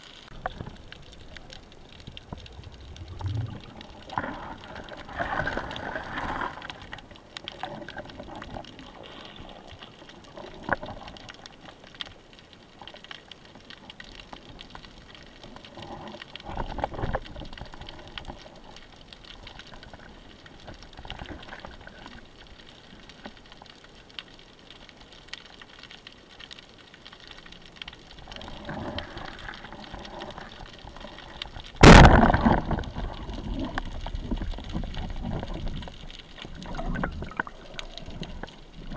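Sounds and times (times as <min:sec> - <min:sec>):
small underwater clicks and swishing: 0:00.0 - 0:38.9.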